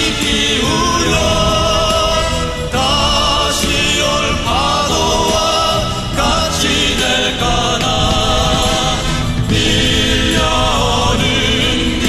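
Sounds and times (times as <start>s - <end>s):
instrumental backing: 0.0s - 12.0s
person singing slow melody: 0.0s - 12.0s.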